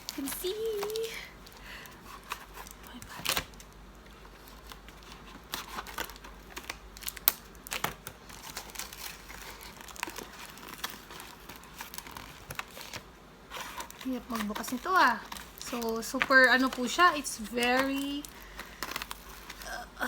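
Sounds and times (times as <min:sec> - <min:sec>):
packing tape tearing: 0:00.0 - 0:19.8
plastic packaging crinkling: 0:00.0 - 0:20.0.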